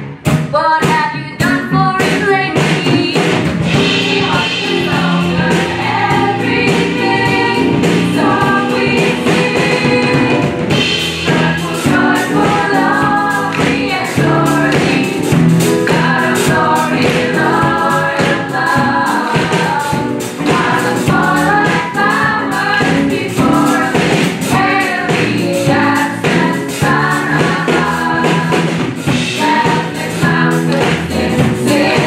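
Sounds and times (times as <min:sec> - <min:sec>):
steady beat: 0:03.0 - 0:32.0
choir singing gospel song: 0:03.5 - 0:32.0.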